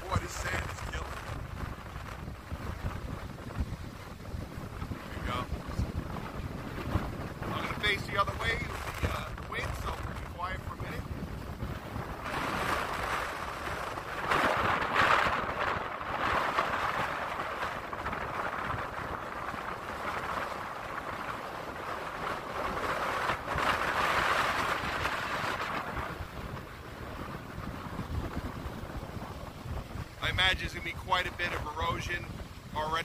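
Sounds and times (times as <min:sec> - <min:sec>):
surf breaking on the beach: 0:00.0 - 0:33.0
wind buffeting the microphone: 0:00.0 - 0:33.0.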